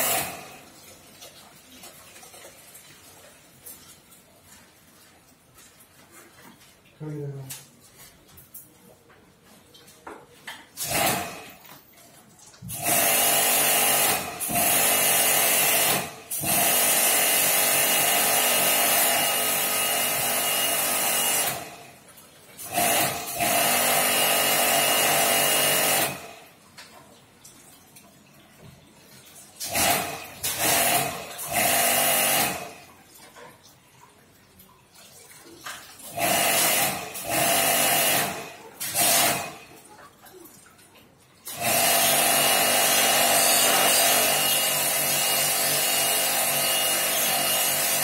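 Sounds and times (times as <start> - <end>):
pump motor hum: 0.0 - 7.3, 10.8 - 27.1, 29.2 - 33.4, 35.3 - 40.2, 40.8 - 48.0.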